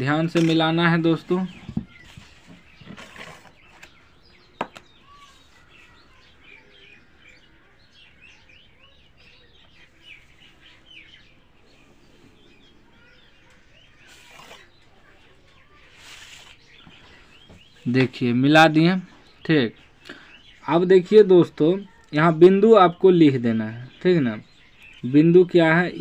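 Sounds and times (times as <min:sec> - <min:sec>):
faint bird chirping: 0:00.0 - 0:26.0.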